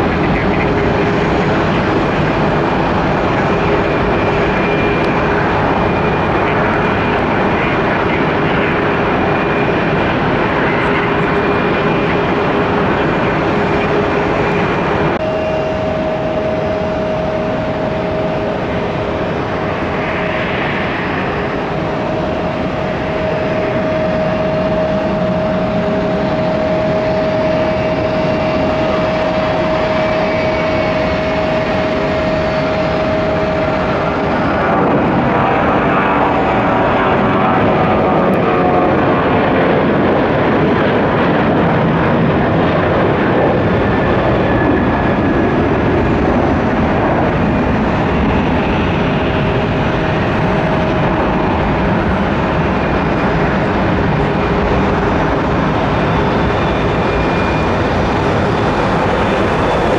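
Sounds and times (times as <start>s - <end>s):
jet engine whine: 0.0s - 59.9s
jet engines taking off: 0.0s - 59.9s.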